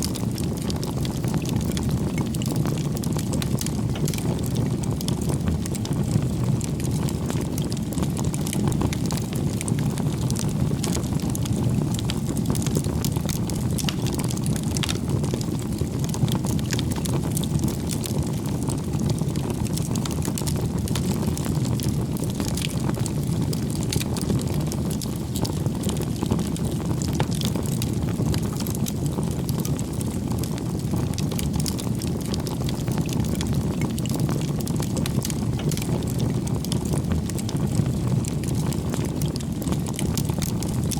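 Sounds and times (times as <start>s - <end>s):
low rumble of flames: 0.0s - 40.9s
wood crackling and popping: 0.0s - 40.9s.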